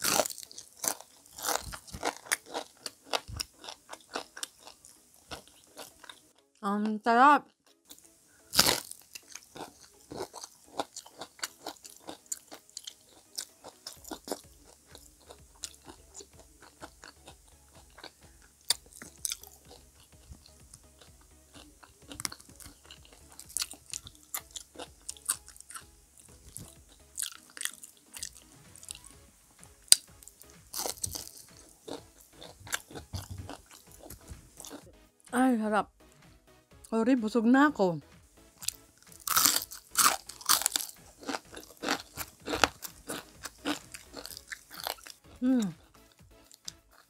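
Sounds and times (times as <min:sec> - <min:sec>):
crunchy chewing: 0:00.0 - 0:06.4, 0:07.6 - 0:34.8, 0:38.5 - 0:47.0.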